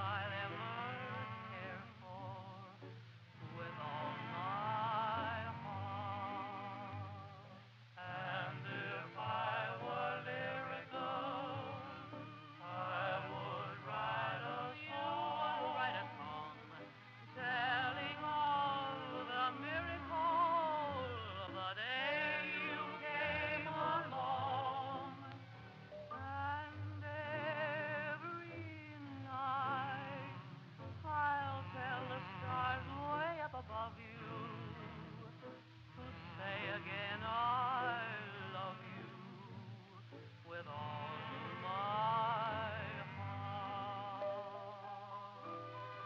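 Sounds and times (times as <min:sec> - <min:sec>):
person singing with vibrato: 0:00.0 - 0:46.0.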